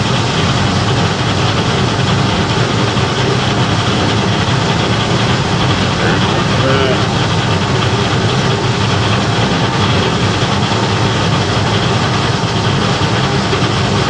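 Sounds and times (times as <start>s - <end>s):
milling machine drone: 0.0s - 14.0s.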